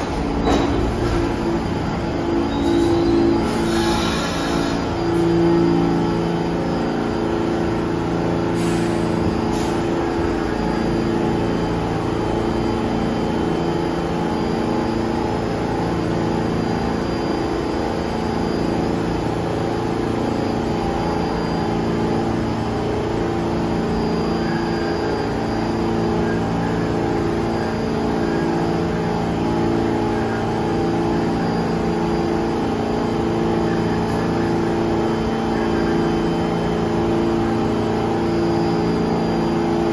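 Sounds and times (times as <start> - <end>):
subway train running: 0.0 - 39.9.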